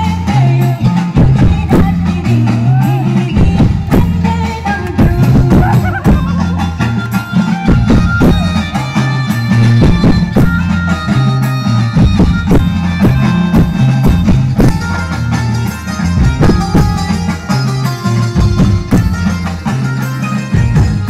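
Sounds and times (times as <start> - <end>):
folk music over loudspeakers: 0.0 - 21.0.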